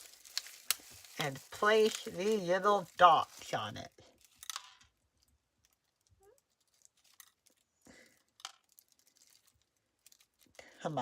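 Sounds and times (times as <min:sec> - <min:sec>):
plastic packaging clicks and rustles: 0:00.0 - 0:10.9.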